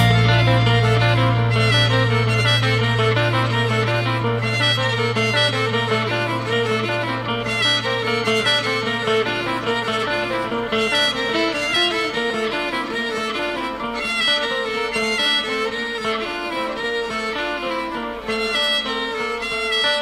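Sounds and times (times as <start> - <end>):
quick string instrument tune: 0.0 - 20.0.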